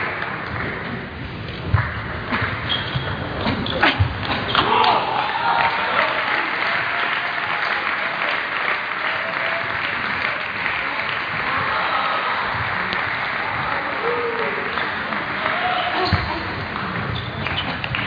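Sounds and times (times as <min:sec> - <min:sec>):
crowd applauding in echoing hall: 0:00.0 - 0:02.6, 0:04.5 - 0:18.0.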